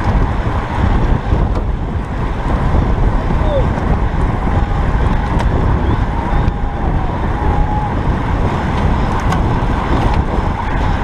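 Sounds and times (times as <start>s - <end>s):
bicycle tyre road noise: 0.0s - 11.0s
wind rushing over microphone: 0.0s - 11.0s.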